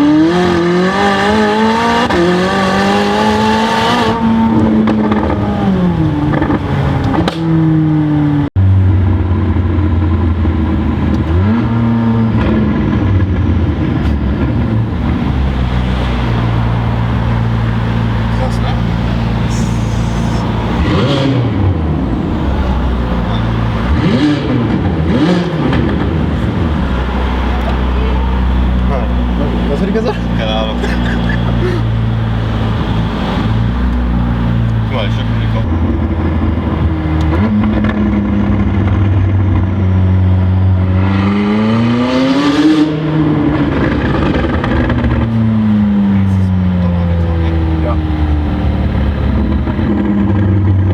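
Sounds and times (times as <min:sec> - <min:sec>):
sports car engine revving: 0:00.0 - 0:50.9.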